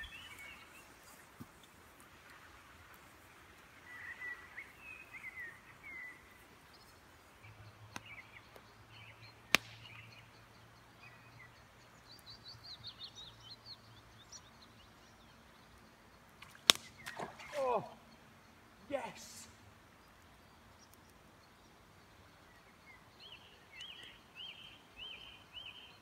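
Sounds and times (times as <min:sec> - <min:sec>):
small birds singing: 0:00.0 - 0:26.0.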